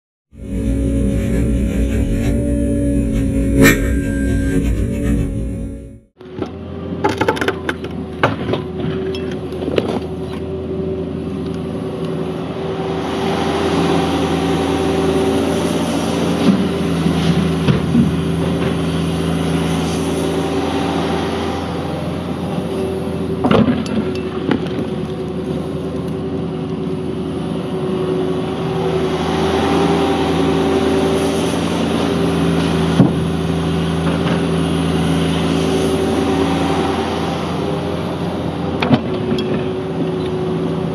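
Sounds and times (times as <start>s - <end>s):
excavator diesel engine running: 0.3s - 40.9s.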